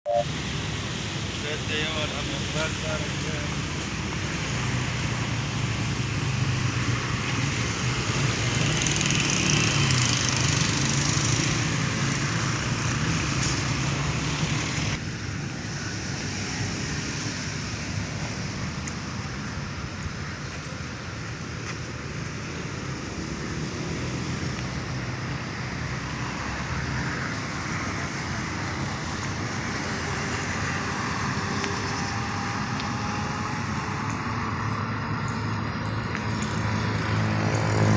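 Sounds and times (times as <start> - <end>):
road traffic noise: 0.0 - 37.9.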